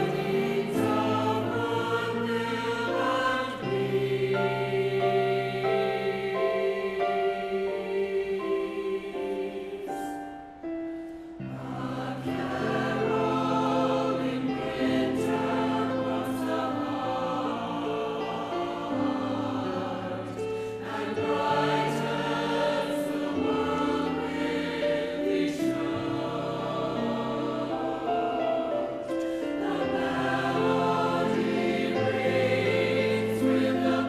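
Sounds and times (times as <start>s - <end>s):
choir singing in harmony: 0.0s - 34.0s.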